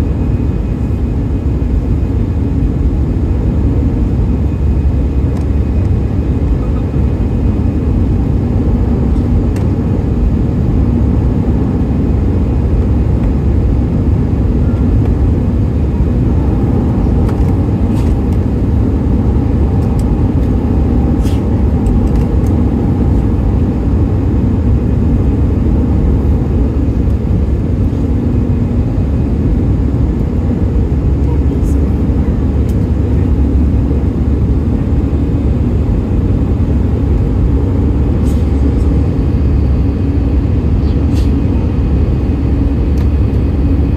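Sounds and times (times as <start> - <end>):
jet engines cabin roar: 0.0 - 43.9.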